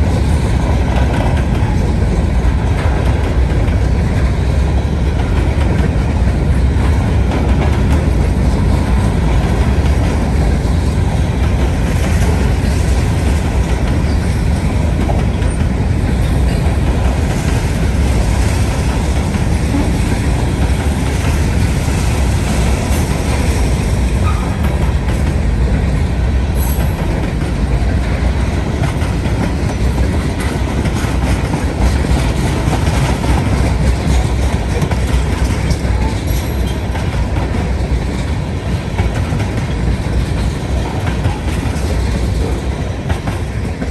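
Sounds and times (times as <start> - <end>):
freight train wheels rumbling: 0.0 - 43.9.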